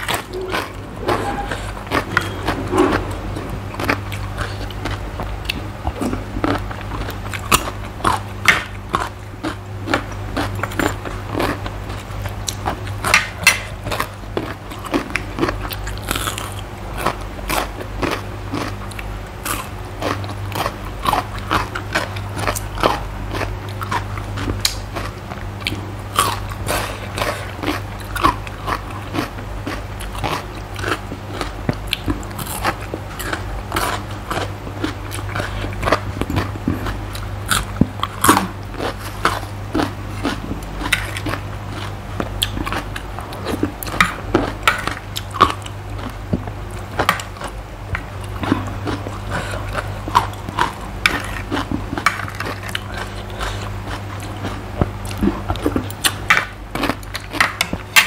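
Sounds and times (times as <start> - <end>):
crunchy chewing of raw vegetables: 0.0 - 58.0
steady low hum: 0.0 - 58.0.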